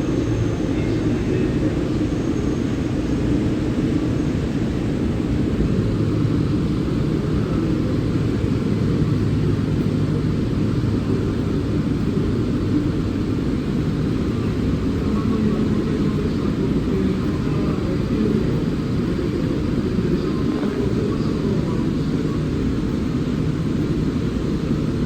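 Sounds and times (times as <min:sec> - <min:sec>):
railway platform rumble: 0:00.0 - 0:25.0.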